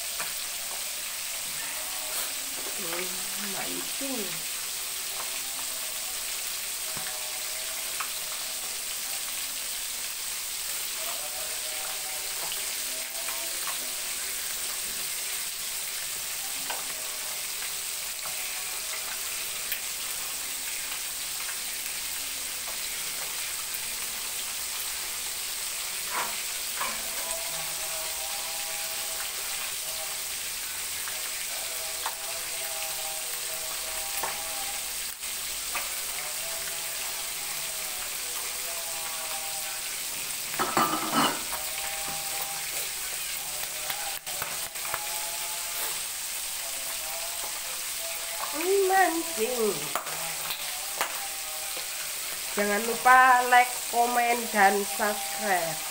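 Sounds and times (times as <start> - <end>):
fish sizzling in hot oil: 0.0 - 55.9.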